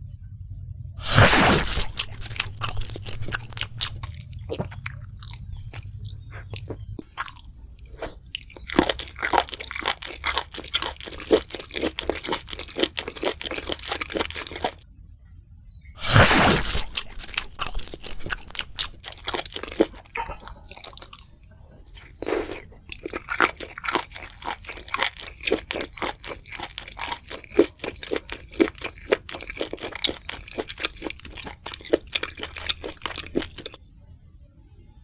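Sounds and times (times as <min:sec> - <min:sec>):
chewing crispy fried food: 0:01.0 - 0:14.8, 0:16.0 - 0:33.8.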